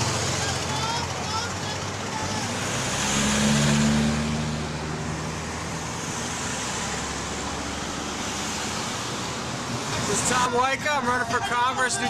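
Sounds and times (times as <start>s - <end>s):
road traffic passing: 0.0s - 12.0s
vehicle engine hum: 0.0s - 12.0s.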